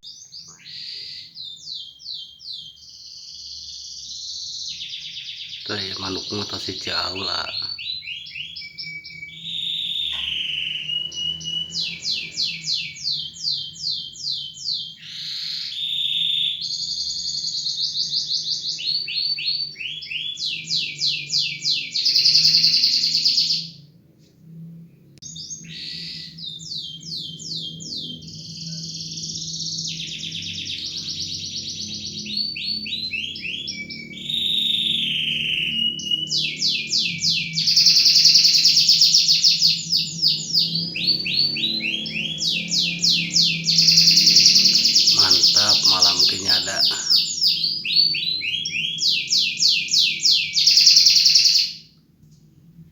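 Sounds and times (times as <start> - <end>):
songbird singing high trills: 0.0 - 23.7, 25.2 - 51.8.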